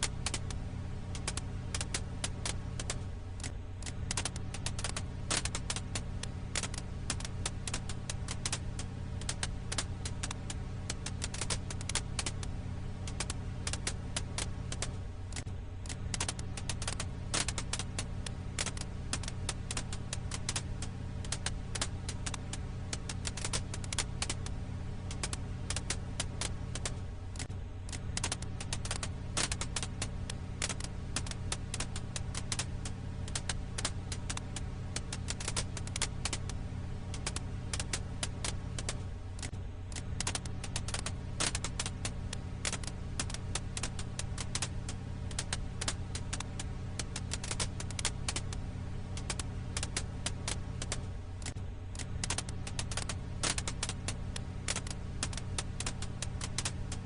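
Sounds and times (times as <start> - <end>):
steady low hum: 0.0 - 57.0
wood fire crackling: 0.0 - 57.0.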